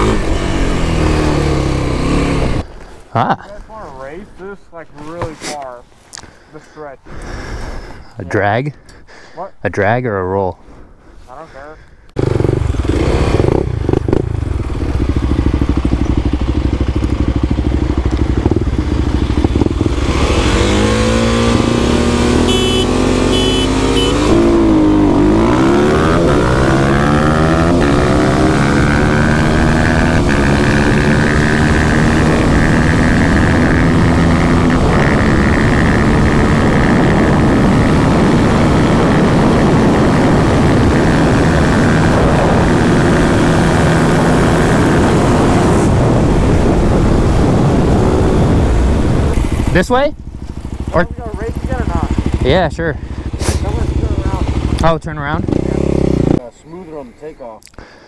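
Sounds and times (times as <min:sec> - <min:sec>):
dirt bike engine accelerating: 0:00.0 - 0:02.6, 0:12.2 - 0:57.0.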